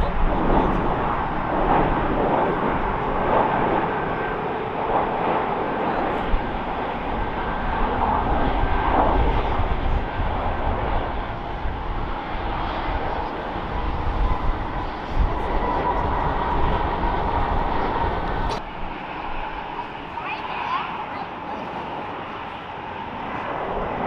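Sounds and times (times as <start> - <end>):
jet engines rushing and whining: 0.0 - 24.0.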